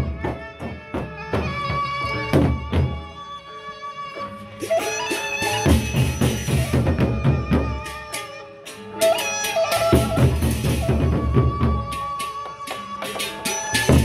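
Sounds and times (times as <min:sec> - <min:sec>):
metallic percussion: 0:00.0 - 0:03.4, 0:04.0 - 0:14.0.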